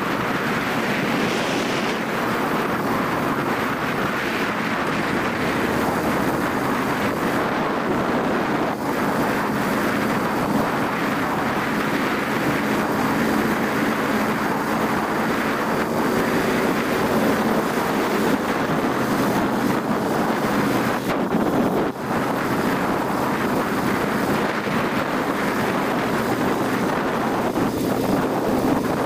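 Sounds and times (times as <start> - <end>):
motorcycle engine hum: 0.0 - 29.0
wind rushing over microphone: 0.0 - 29.0.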